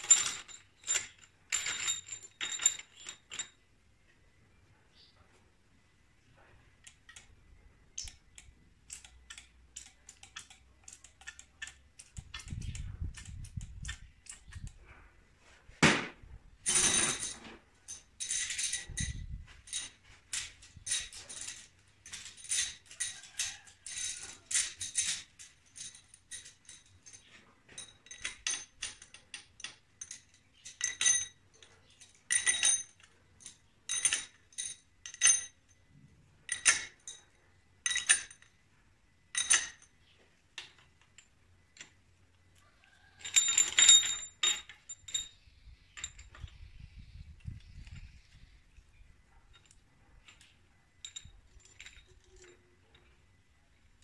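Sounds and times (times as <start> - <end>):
metal parts clinking: 0.0 - 3.7, 6.8 - 15.0, 16.6 - 54.0.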